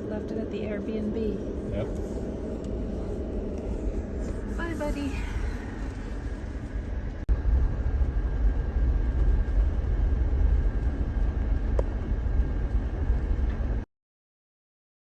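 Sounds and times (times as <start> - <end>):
road and wind noise: 0.0 - 13.8
vehicle engine rumble: 0.0 - 13.9.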